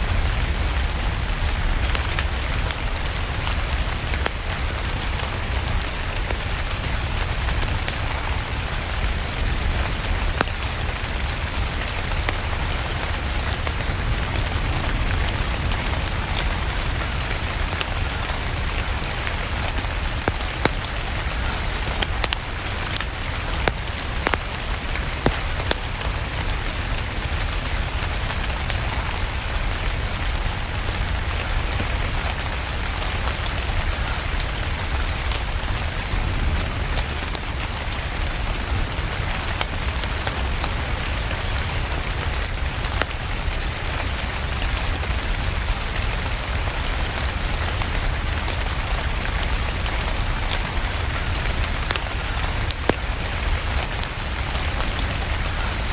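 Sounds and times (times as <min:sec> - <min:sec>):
fireplace fire crackling: 0:00.0 - 0:55.9
steady rain: 0:00.0 - 0:55.9.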